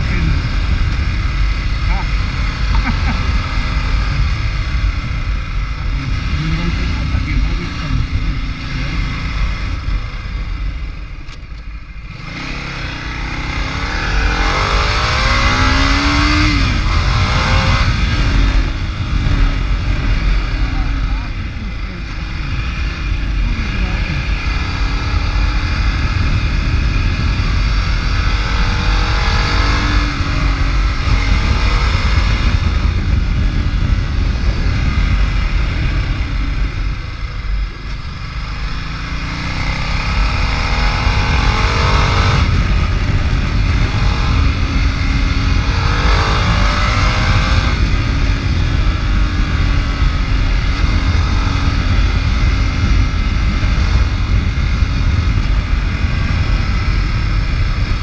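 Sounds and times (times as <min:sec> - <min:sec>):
motorcycle engine accelerating: 0:00.0 - 0:58.0
wind rumble on microphone: 0:00.0 - 0:58.0.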